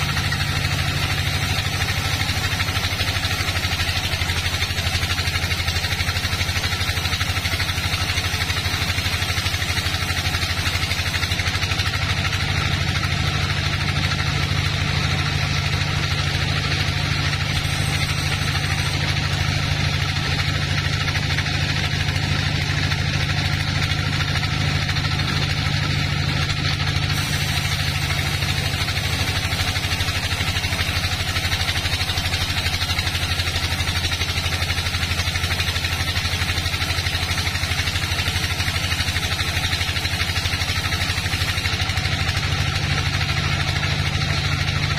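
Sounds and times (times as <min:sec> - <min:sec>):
band sawmill low hum: 0:00.0 - 0:44.9.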